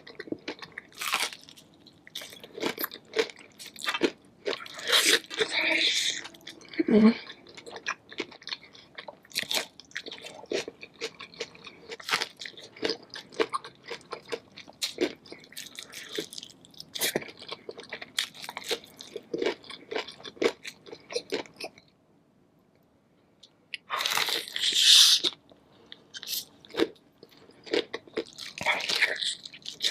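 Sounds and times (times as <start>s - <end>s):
chewing crunchy food: 0.0s - 21.9s, 23.8s - 29.9s.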